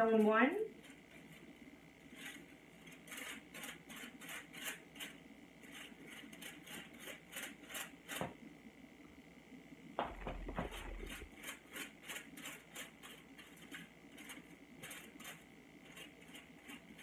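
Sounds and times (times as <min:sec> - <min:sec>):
brush scraping over hair on foil: 0:00.8 - 0:08.2, 0:10.1 - 0:17.0.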